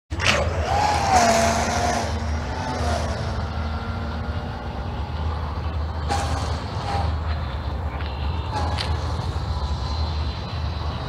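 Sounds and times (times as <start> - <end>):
electric boat motor whining: 0.2 - 11.0.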